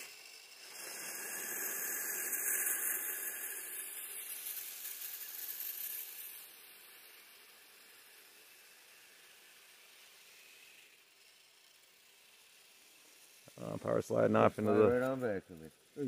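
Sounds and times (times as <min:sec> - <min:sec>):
rc vehicle tracks churning snow: 0:00.0 - 0:16.0.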